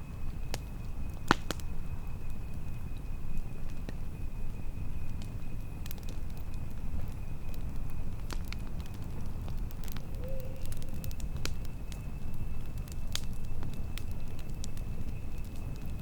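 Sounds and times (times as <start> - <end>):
burning wood crackling: 0.0 - 16.0
low fire rumble: 0.0 - 16.0.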